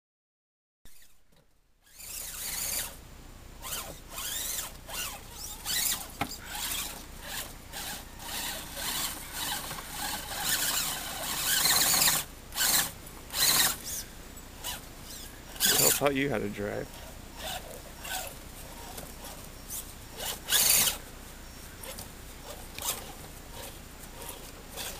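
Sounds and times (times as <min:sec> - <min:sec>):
electric motor and gears whining: 0:01.8 - 0:03.0, 0:03.6 - 0:24.9.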